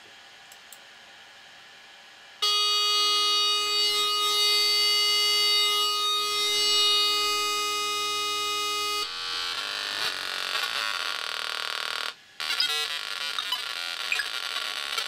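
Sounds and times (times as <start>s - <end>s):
lower electronic tone: 2.4s - 15.0s
steady electronic tone: 2.4s - 15.0s.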